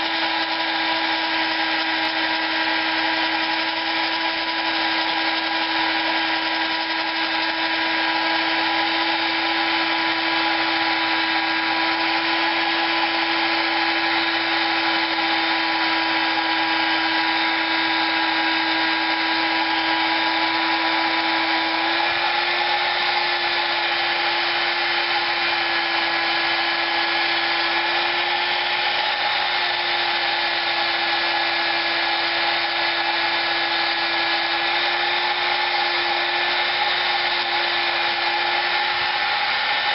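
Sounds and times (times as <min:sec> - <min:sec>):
power tool polishing metal: 0:00.0 - 0:39.9.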